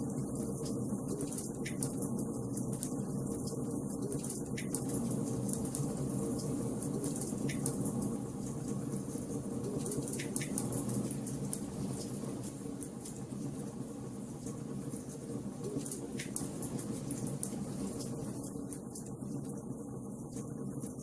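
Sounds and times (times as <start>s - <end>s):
wood fire crackling: 0.1s - 21.0s.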